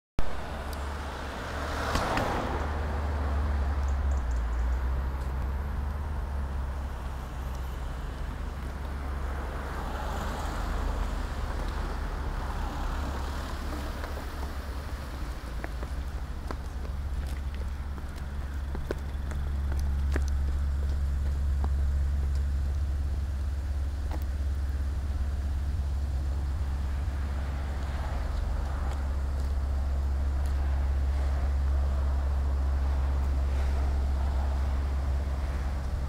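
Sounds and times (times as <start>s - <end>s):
cars driving past: 0.2s - 36.0s
low traffic rumble: 0.2s - 36.0s.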